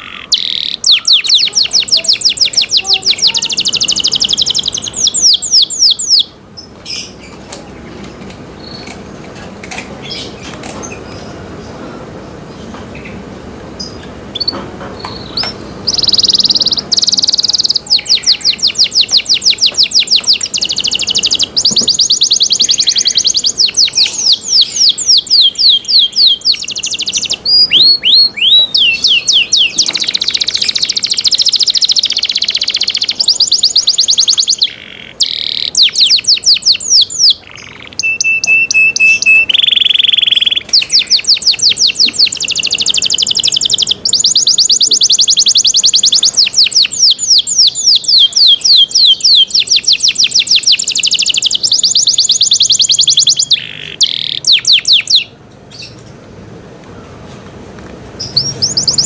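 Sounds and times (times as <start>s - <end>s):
canary singing trills: 0.0s - 9.2s, 10.0s - 56.1s, 58.2s - 59.0s.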